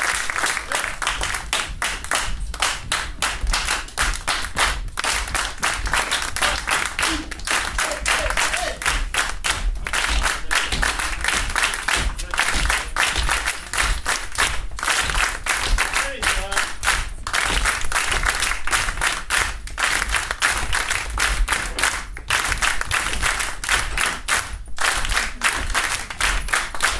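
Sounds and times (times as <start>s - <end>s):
people hand-clapping a rhythm: 0.0s - 26.9s.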